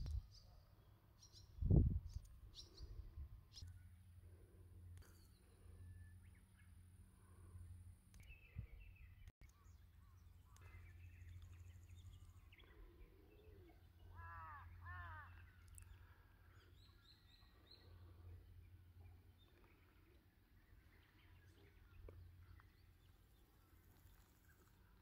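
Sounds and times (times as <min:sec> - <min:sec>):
faint bird calls and chirps: 0:00.0 - 0:25.0.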